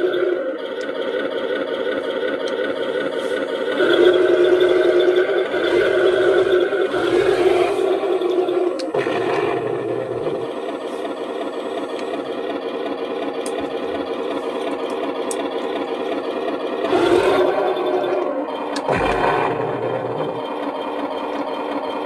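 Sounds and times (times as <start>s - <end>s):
simulated tank engine idling: 0.0s - 22.0s.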